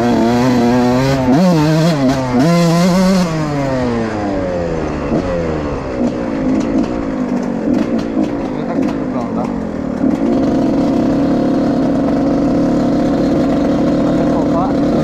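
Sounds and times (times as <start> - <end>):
two-stroke motocross engine revving: 0.0 - 15.0.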